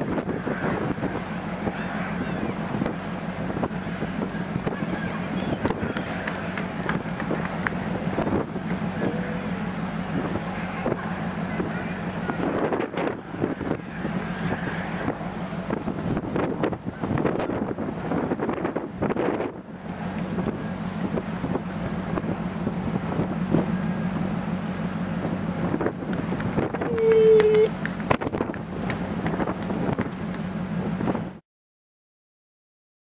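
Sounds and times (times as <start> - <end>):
low ship machinery hum: 0.0 - 31.4
wind buffeting microphone: 0.0 - 31.4.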